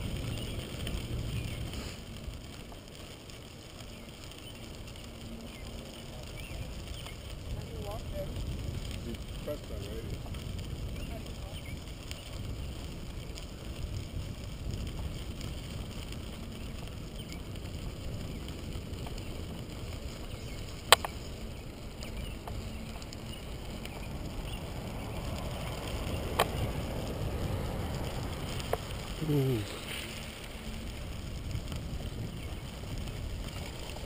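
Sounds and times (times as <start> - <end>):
bicycle tyres rumbling on gravel: 0.0 - 34.0.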